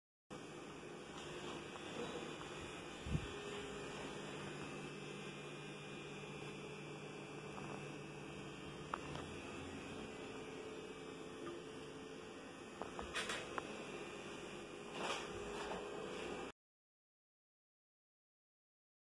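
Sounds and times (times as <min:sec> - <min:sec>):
steady low hum: 0:00.3 - 0:16.5.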